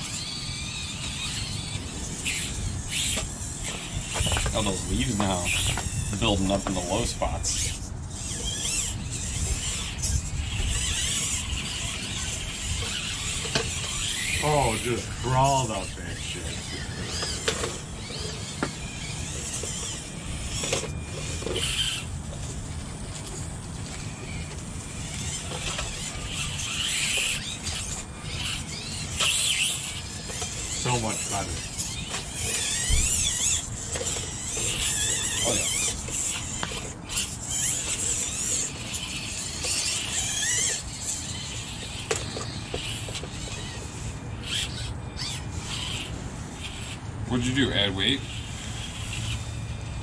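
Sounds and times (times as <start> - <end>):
small electric motor whining: 0.0 - 50.0.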